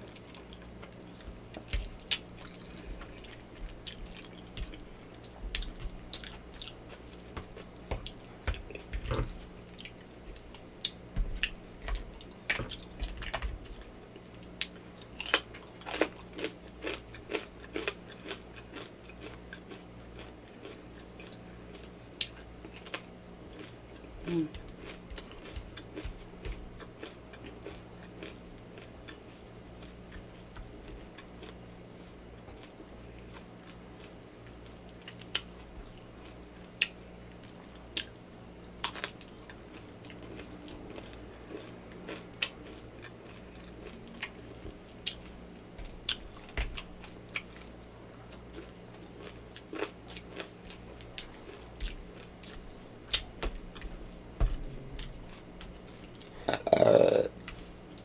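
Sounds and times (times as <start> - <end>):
chewing with wet mouth clicks: 0.0 - 38.2, 38.8 - 56.8
faint low hum: 0.0 - 58.0.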